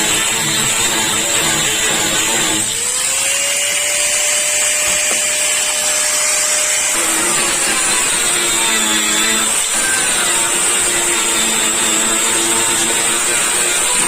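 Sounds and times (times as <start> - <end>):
handheld power tool hissing: 0.0 - 14.0.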